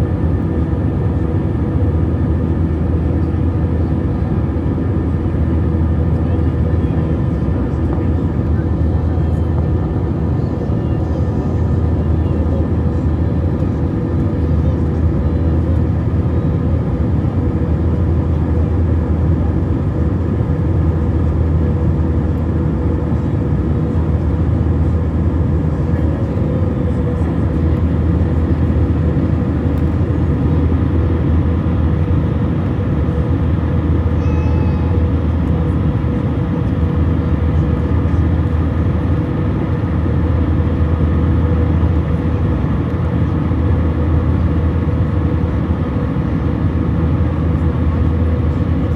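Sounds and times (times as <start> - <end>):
jet engine drone: 0.0 - 48.9.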